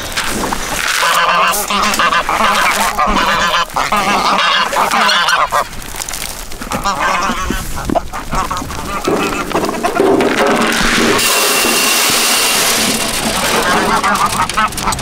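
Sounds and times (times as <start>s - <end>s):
geese honking: 0.0s - 5.8s, 6.5s - 15.0s.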